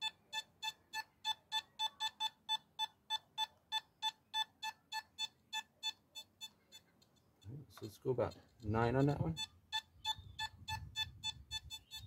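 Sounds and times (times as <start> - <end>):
metal detector short beeps: 0.0 - 6.8, 8.6 - 12.0.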